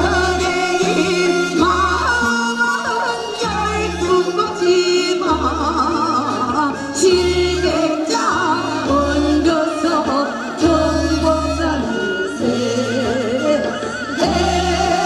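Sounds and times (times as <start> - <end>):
amplified accompaniment with bass: 0.0 - 15.0
women singing folk song: 0.0 - 15.0.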